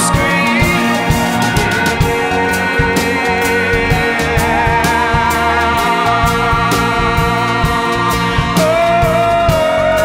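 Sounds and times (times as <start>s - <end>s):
drums and cymbals: 0.0s - 10.0s
electric guitars: 0.0s - 10.0s.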